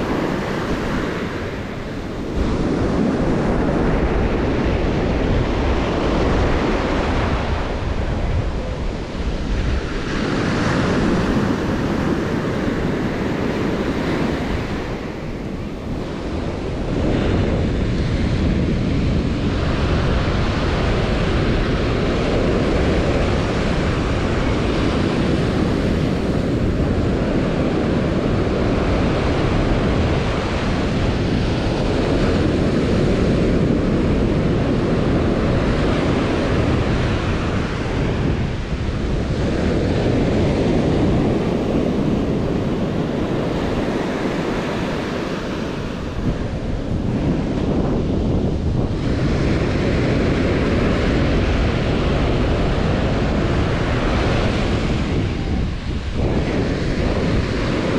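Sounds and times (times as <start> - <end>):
surf washing up a beach: 0.0 - 57.9
wind rumbling on microphone: 0.0 - 57.9.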